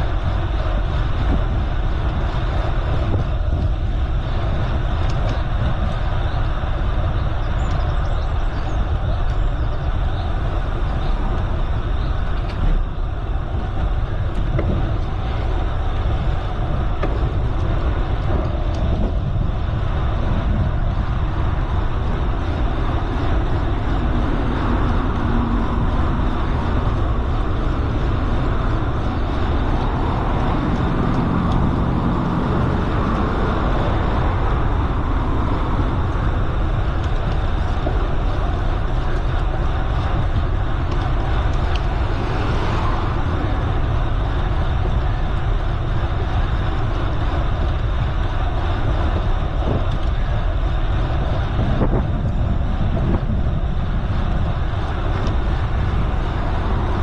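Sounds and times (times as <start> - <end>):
tyres rolling on road: 0.0 - 57.0
wind rumbling on microphone: 0.0 - 57.0.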